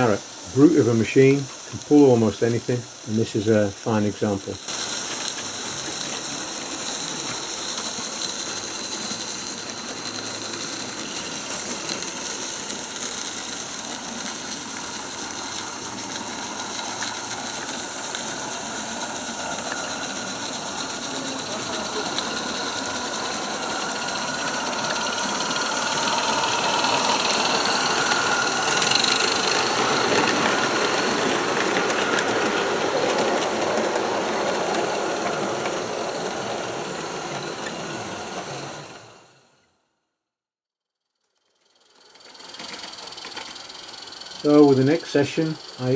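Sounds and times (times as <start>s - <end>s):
model steam locomotive running: 0.0s - 39.6s, 41.5s - 45.9s.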